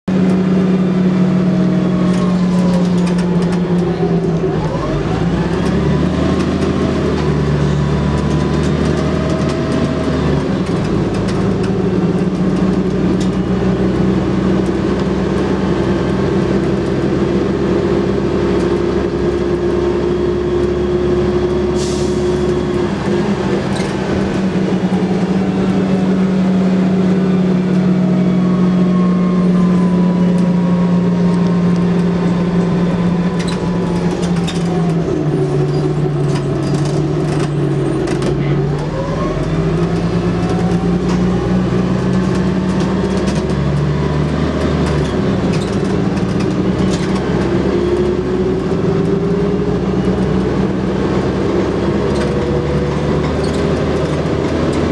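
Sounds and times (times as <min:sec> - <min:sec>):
bus engine droning: 0:00.1 - 0:54.9.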